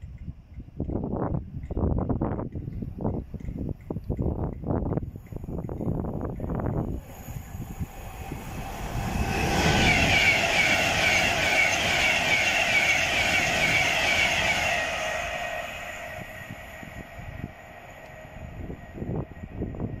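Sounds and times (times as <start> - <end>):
electric train passing at speed: 0.1 - 20.0.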